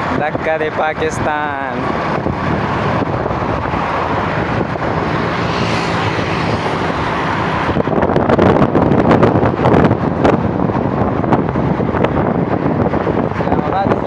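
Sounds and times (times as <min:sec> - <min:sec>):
road and engine noise: 0:00.0 - 0:14.0
wind buffeting microphone: 0:00.0 - 0:14.0.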